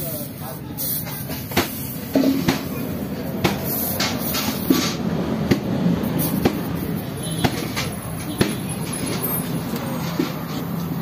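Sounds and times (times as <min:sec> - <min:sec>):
hand tools clicking and knocking: 0:01.0 - 0:11.0.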